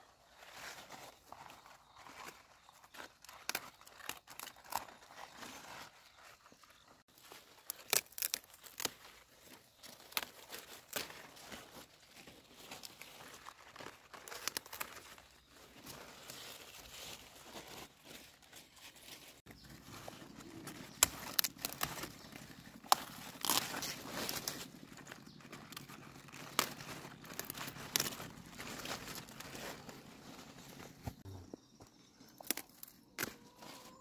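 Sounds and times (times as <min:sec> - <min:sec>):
rustling and crackling: 0:00.4 - 0:31.2.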